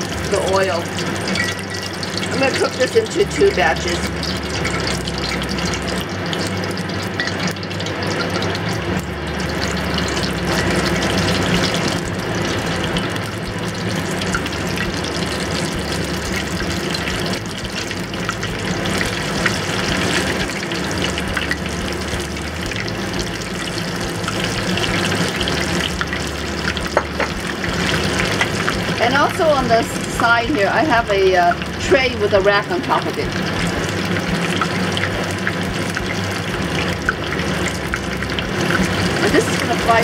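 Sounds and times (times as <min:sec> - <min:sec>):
prawns deep-frying in oil: 0:00.0 - 0:40.0.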